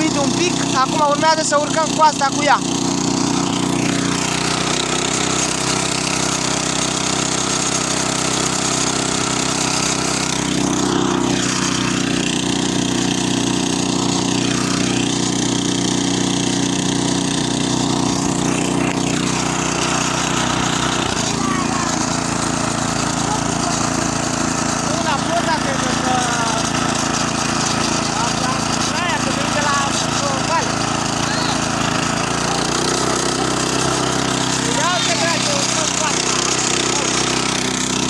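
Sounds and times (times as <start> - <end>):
walk-behind tractor engine running: 0.0 - 38.0.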